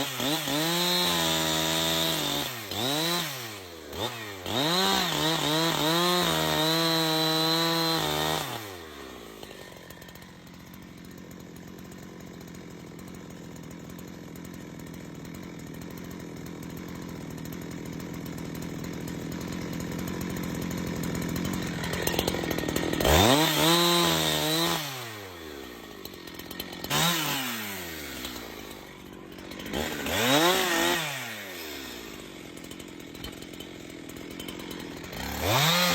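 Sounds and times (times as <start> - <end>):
chainsaw engine revving and idling: 0.0 - 35.9.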